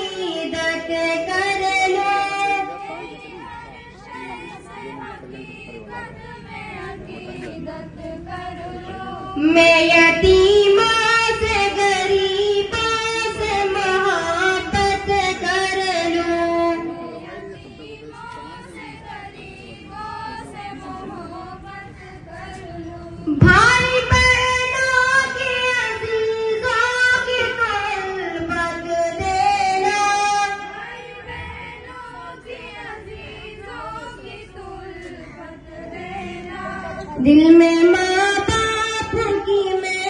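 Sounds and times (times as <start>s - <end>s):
girls singing a prayer: 0.0s - 40.0s.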